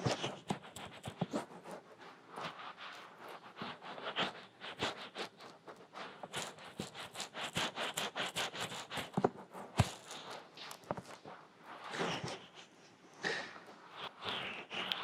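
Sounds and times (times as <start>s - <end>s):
fingers rubbing on microphone: 0.0s - 13.0s, 13.6s - 15.0s.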